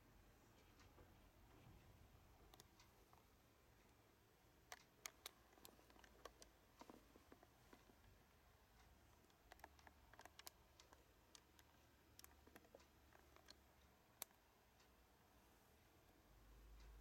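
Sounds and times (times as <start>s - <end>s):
faint clicks and ticks: 0.0s - 17.0s.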